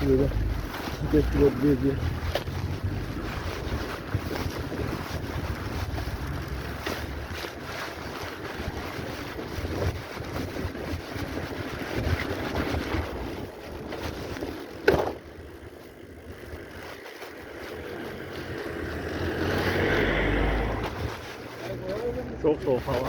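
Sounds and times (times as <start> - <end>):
bicycle ride rumble: 0.0 - 23.0
wind buffeting microphone: 0.0 - 23.0.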